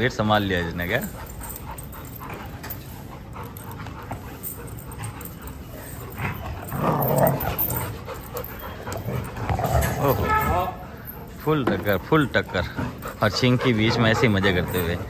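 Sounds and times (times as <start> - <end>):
dogs play-fighting: 0.0 - 15.0.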